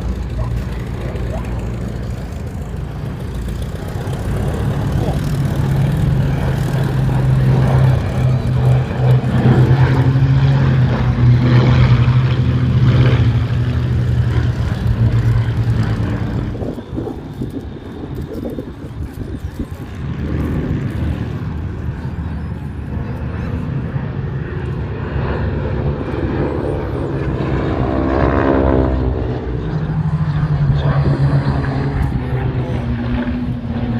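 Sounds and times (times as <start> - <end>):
propeller aircraft flying past: 0.0 - 33.9.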